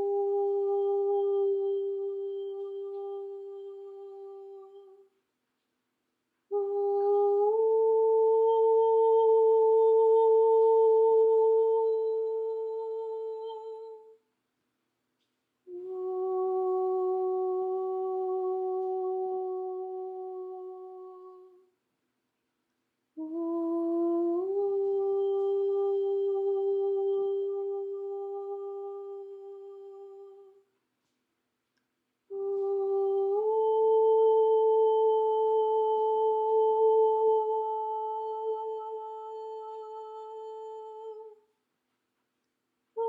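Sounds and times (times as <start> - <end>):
person humming held note: 0.0 - 5.1, 6.5 - 14.2, 15.6 - 21.7, 23.2 - 30.6, 32.3 - 41.4.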